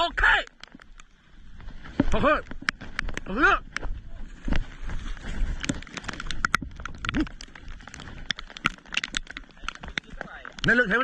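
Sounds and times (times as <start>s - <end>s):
raindrops tapping on camera: 1.9s - 11.0s.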